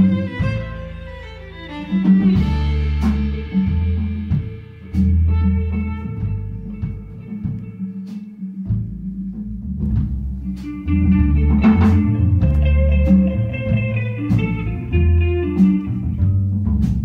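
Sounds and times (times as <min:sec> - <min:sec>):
violin: 0:00.0 - 0:08.9, 0:10.4 - 0:17.0
drum kit and cymbal hits: 0:00.0 - 0:17.0
guitar: 0:00.0 - 0:17.0
plucked double bass: 0:00.0 - 0:17.0.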